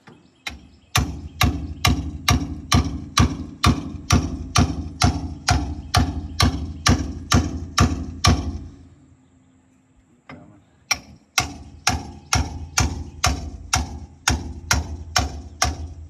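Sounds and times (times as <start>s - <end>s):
hammer striking a chisel: 0.4s - 8.7s, 10.9s - 16.0s.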